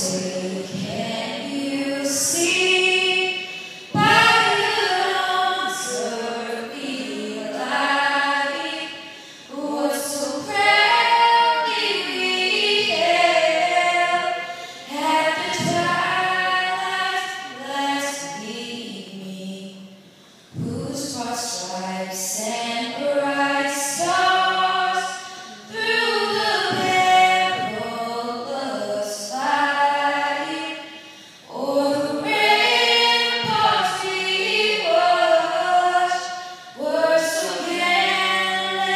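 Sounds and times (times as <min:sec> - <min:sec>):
women singing an anthem: 0:00.0 - 0:19.9, 0:20.5 - 0:38.9.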